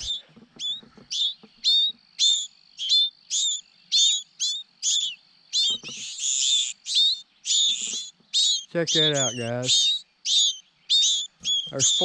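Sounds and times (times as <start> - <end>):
nestling birds begging calls: 0.0 - 12.0.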